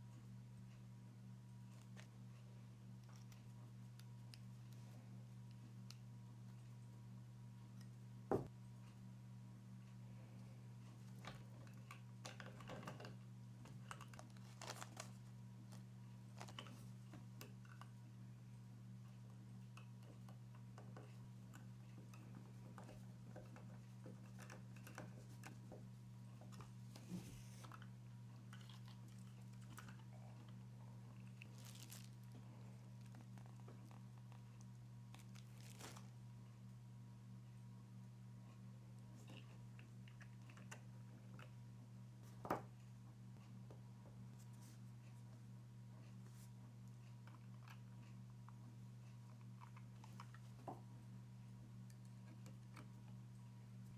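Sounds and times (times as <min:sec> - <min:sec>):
low electrical hum: 0:00.0 - 0:53.9.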